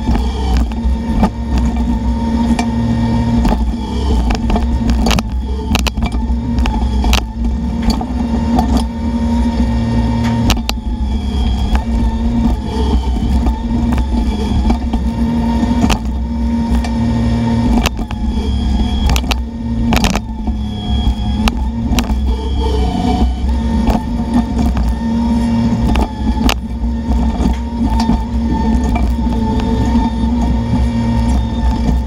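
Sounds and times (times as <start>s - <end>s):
mini excavator diesel engine: 0.0s - 32.0s.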